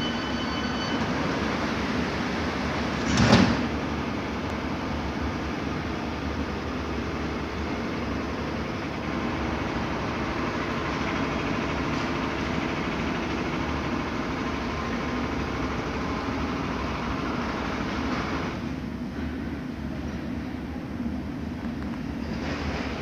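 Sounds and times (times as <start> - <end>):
electric train rumbling past: 0.0 - 23.0.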